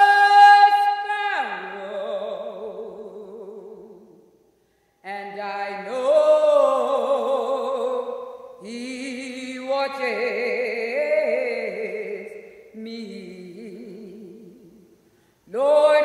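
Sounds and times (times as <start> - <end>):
person singing with vibrato: 0.0 - 4.4, 5.0 - 16.0.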